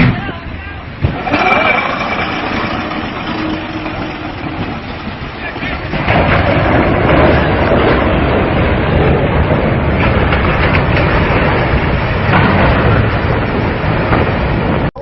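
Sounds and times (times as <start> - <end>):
loud rushing noise: 0.0 - 14.9
low rumble: 0.0 - 15.0.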